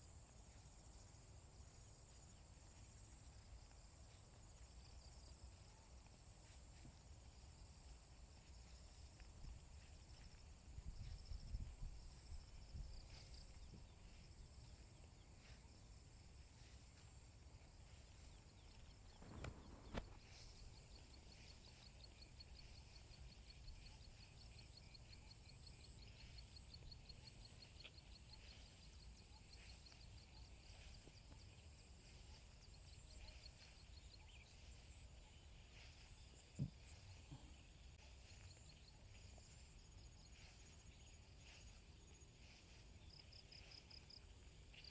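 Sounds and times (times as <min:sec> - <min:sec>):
insects droning: 0:00.0 - 0:44.9
insect pulsing trill: 0:04.1 - 0:44.9.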